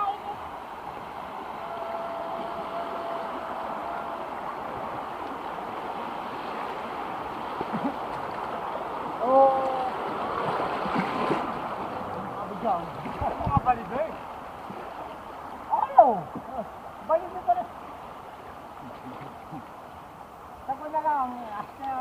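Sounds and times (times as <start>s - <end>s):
water rushing over rapids: 0.0s - 22.0s.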